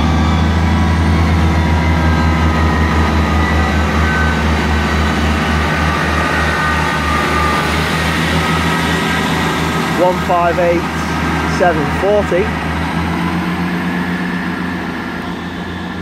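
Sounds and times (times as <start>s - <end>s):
diesel train engine droning: 0.0s - 16.0s.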